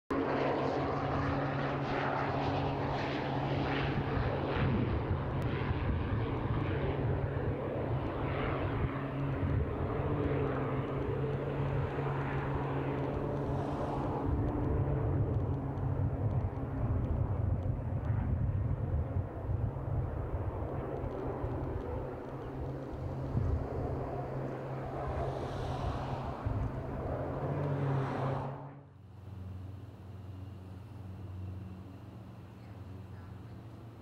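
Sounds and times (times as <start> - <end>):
propeller plane engine drone: 0.1 - 34.0.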